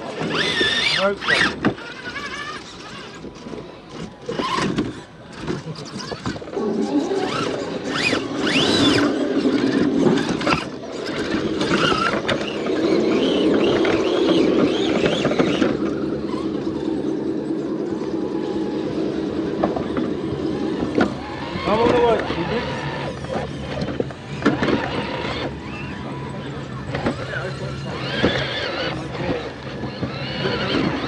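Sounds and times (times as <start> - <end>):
electric motor whining: 0.0 - 31.0.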